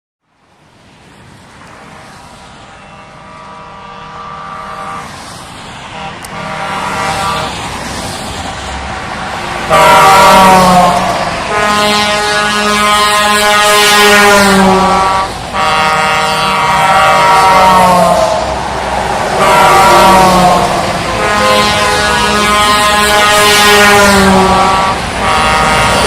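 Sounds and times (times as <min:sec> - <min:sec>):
truck horns sounding: 0:02.5 - 0:05.2, 0:05.8 - 0:07.8, 0:09.6 - 0:26.0.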